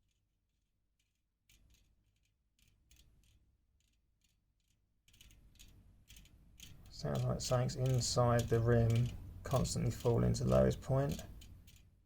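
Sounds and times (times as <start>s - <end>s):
rattling ticks from spinning wheel: 1.0s - 11.9s.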